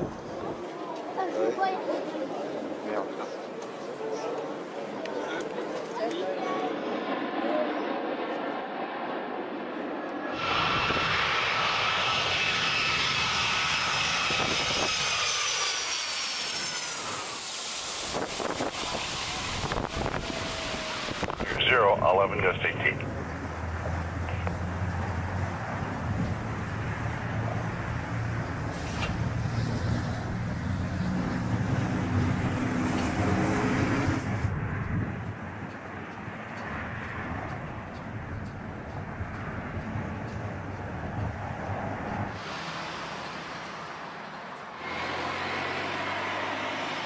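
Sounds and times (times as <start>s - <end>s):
jet airliner passing overhead: 0.0s - 47.0s.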